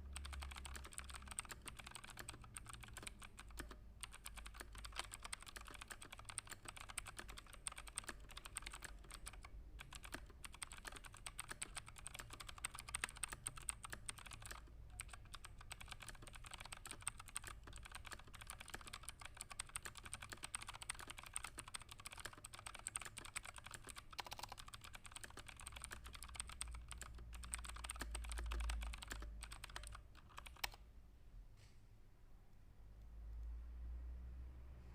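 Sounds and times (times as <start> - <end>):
typing on computer keyboard: 0.0 - 30.8.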